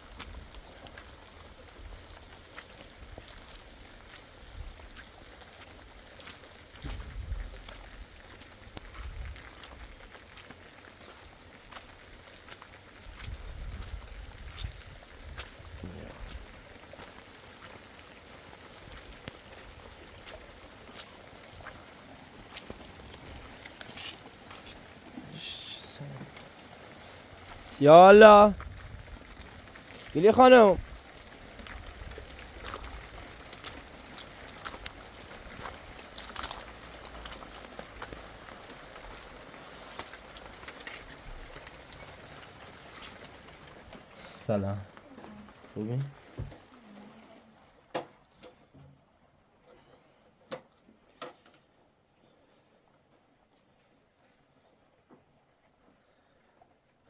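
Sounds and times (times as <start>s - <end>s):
rain hissing: 0.0s - 46.6s
raindrop ticks: 0.0s - 47.0s.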